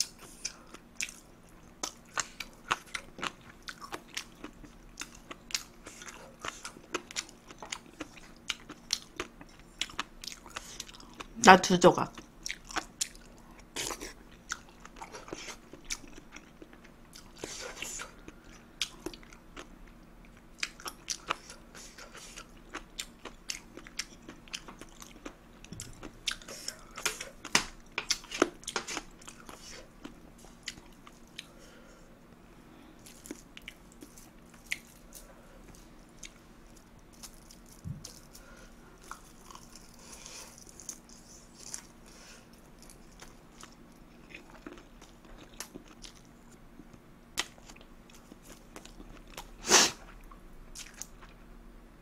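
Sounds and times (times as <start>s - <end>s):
chewing and crunching: 0.0s - 11.4s, 12.0s - 31.8s, 32.7s - 51.5s.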